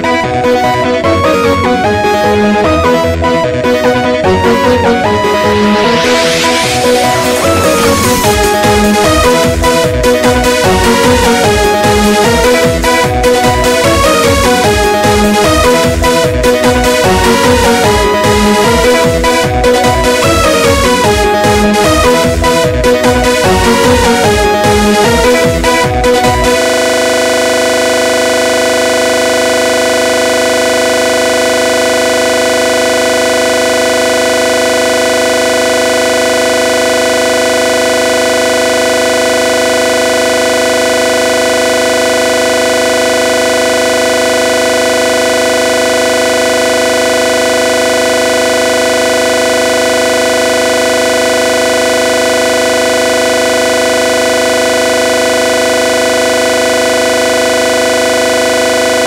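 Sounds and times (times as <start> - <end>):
loud electronic drone chord: 0.0 - 59.0.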